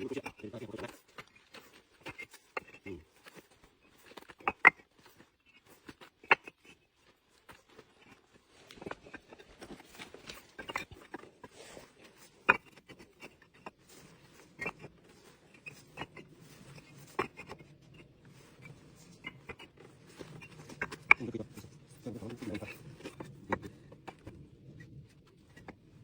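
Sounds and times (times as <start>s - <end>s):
bricks clinking and knocking: 0.0s - 26.0s.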